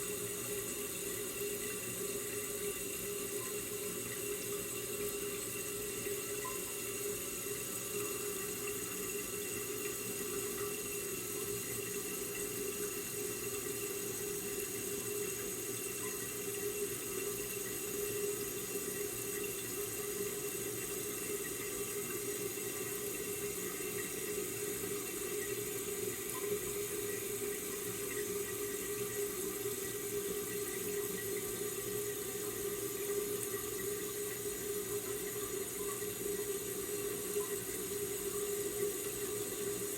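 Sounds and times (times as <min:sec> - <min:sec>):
water running through toilet: 0:00.0 - 0:39.9.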